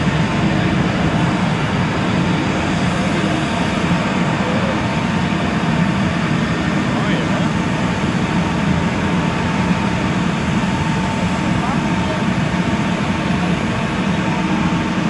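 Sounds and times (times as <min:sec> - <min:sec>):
airliner and tug rumbling: 0:00.0 - 0:15.0.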